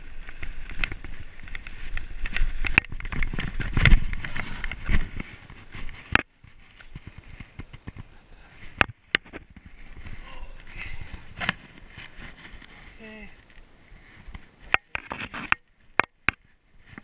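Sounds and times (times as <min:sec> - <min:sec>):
faint trail noise: 0:00.0 - 0:17.0.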